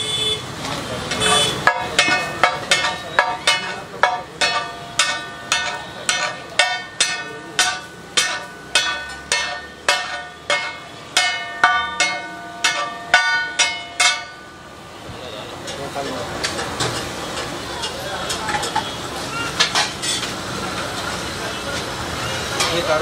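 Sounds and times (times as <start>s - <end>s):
metal spatula clanging on griddle: 0.7s - 14.7s, 15.6s - 20.3s, 22.4s - 23.0s.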